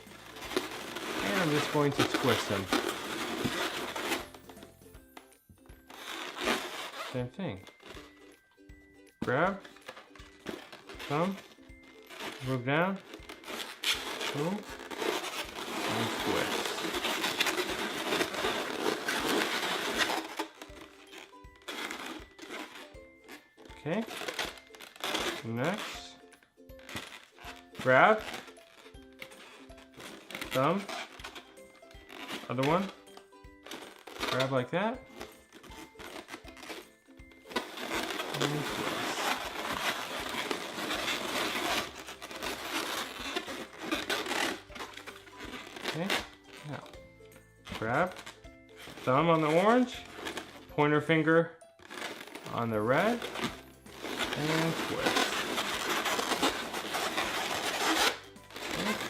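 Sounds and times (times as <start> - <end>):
balloons rubbing and squeaking: 0.0 - 59.0.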